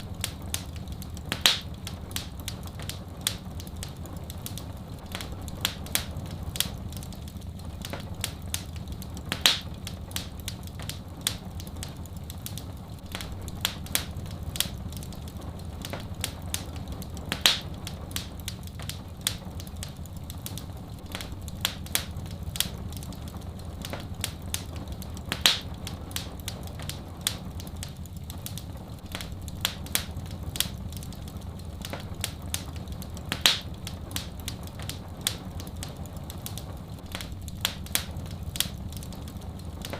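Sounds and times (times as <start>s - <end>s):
soft rain rushing: 0.0s - 39.9s
wood fire crackling: 0.0s - 39.9s.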